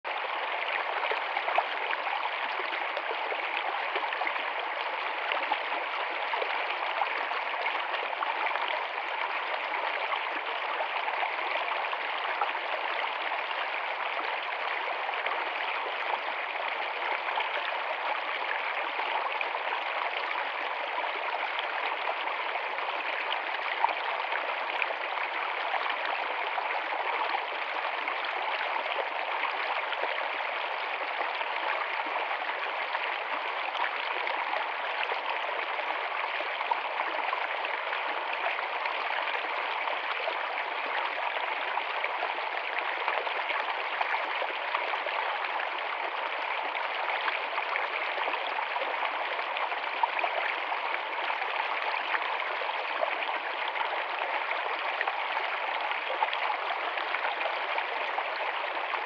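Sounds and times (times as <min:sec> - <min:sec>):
stream babbling over rocks: 0:00.0 - 0:59.0.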